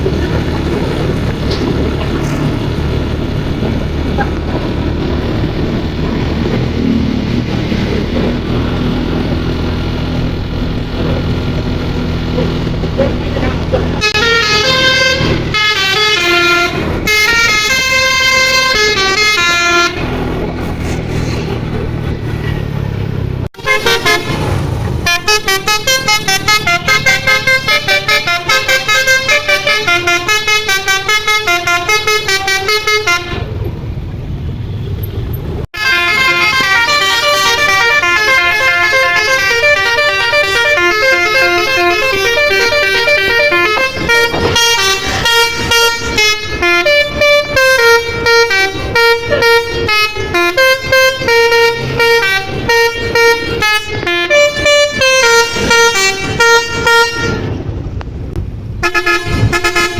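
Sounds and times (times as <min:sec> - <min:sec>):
bus horn playing melody: 0:00.0 - 0:21.5, 0:23.5 - 0:33.6, 0:35.7 - 0:57.6, 0:58.7 - 0:59.9
bus engine rumble: 0:00.0 - 0:59.9.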